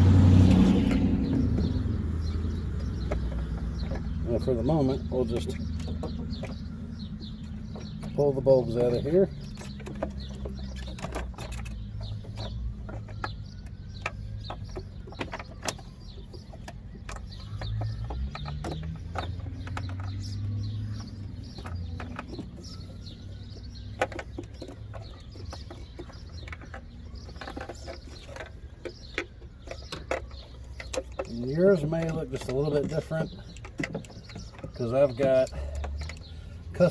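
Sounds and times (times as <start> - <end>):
plastic clicks and rattles: 5.2 - 36.8.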